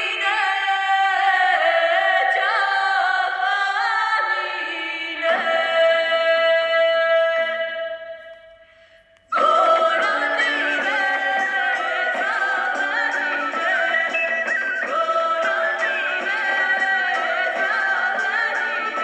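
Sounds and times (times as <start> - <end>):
voices singing in harmony: 0.0 - 8.7, 9.3 - 19.0.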